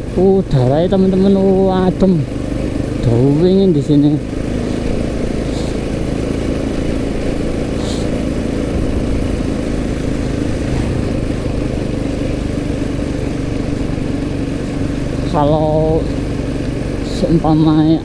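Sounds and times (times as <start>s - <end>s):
motorcycle engine running: 0.0s - 18.0s
wind rush and road noise: 0.0s - 18.0s.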